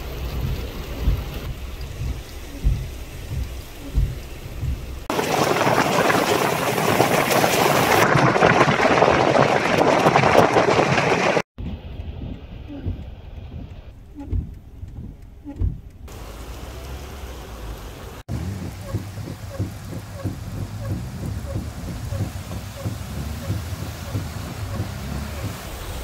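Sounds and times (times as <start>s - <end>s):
rushing flood water and rain: 0.0s - 11.5s, 16.1s - 26.0s
wind thumping on microphone: 0.0s - 15.9s, 18.3s - 26.0s.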